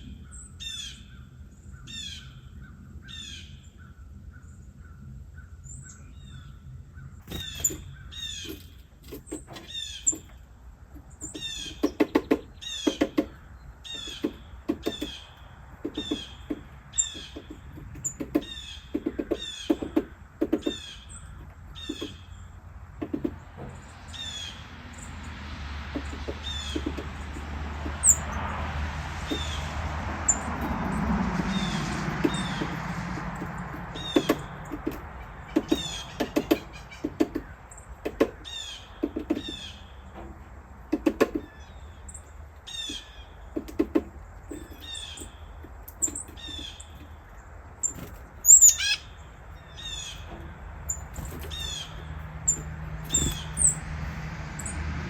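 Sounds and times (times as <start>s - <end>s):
small birds calling: 0.0s - 55.0s.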